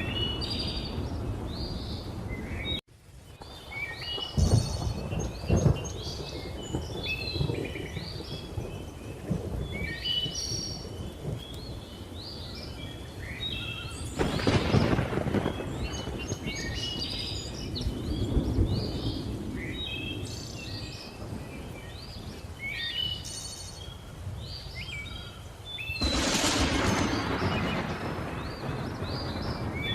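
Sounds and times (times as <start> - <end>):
thunder rumbling: 0.0 - 22.4, 26.0 - 29.9
birds chirping and whistling: 3.5 - 14.9, 15.5 - 29.9.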